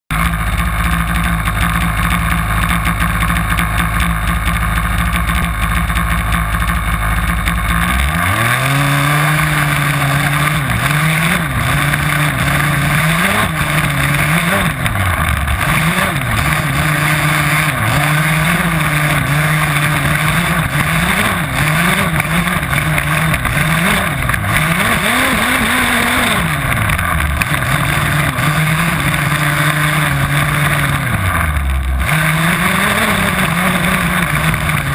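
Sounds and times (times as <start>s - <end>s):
small two-stroke engine revving: 0.1s - 34.9s.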